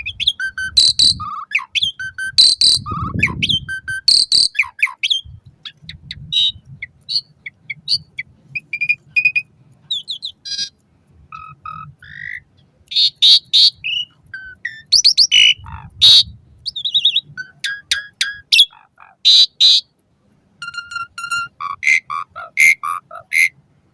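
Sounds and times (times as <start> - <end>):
starling singing: 0.0 - 19.9, 20.6 - 23.6.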